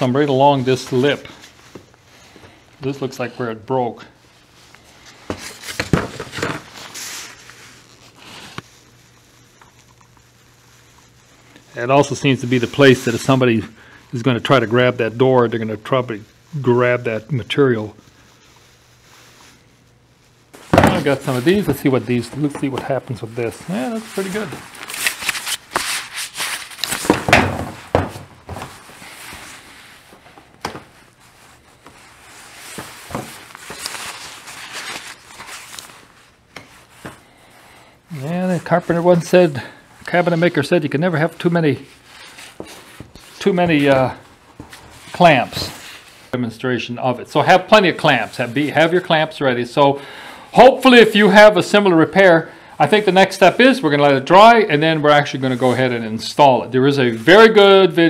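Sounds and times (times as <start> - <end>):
gloves rubbing on plastic: 0.0 - 49.9, 50.6 - 58.0.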